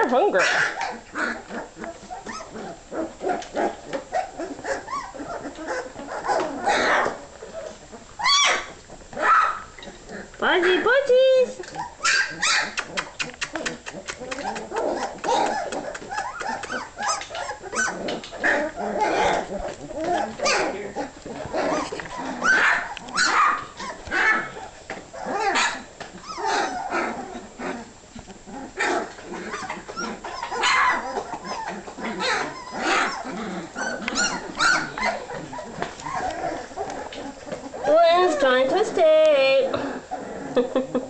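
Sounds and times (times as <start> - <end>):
puppies barking and yapping: 0.0 - 41.0
puppies whining: 0.0 - 41.0.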